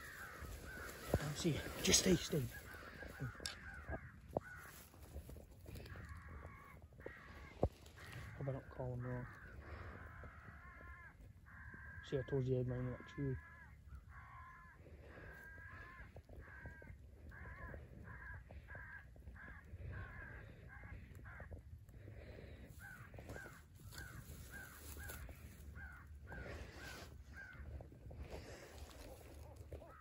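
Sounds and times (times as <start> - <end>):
crow cawing: 0.0 - 30.0.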